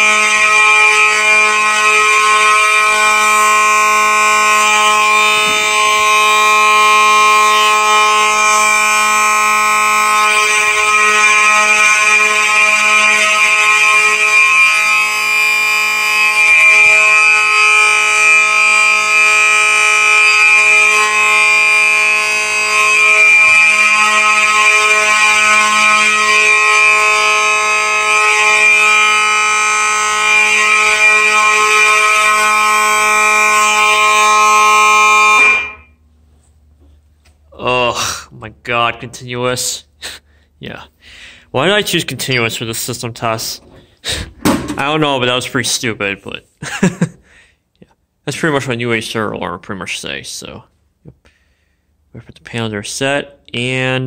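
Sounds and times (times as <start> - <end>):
continuous fire alarm horns: 0.0 - 47.6.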